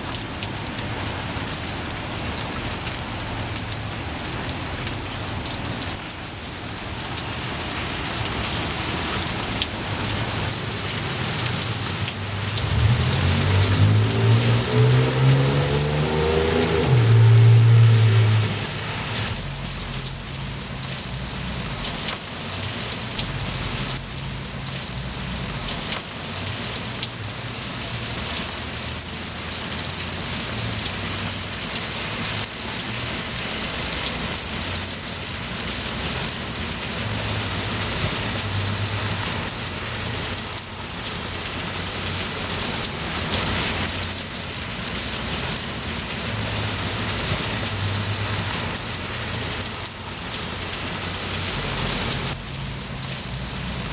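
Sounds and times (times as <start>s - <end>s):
heavy rain: 0.0s - 53.9s
raindrops ticking on surface: 0.0s - 53.9s.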